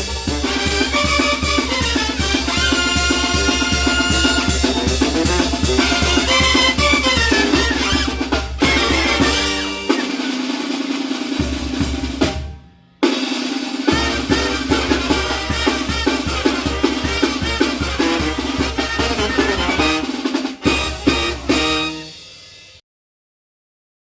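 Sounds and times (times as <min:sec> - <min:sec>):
snare drum hits: 0:00.0 - 0:22.1
brass band playing: 0:00.0 - 0:22.4.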